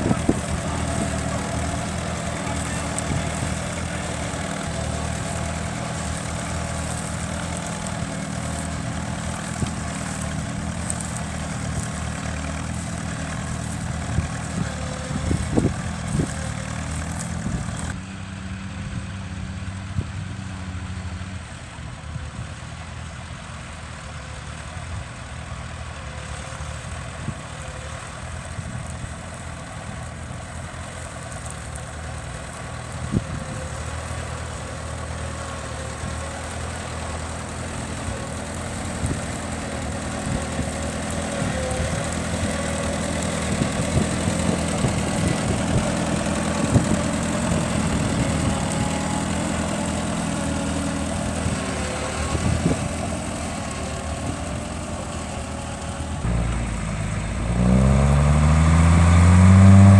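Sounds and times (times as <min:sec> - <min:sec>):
heavy engine idling: 0:00.0 - 0:18.0, 0:23.0 - 0:59.9.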